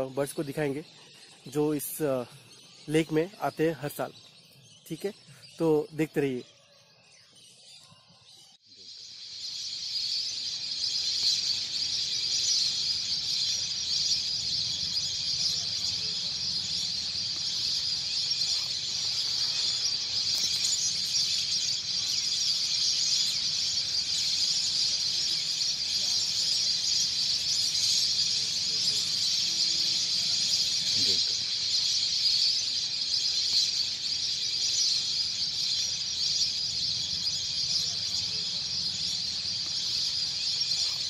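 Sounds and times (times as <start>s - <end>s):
chorus of calling animals: 0.0s - 41.0s.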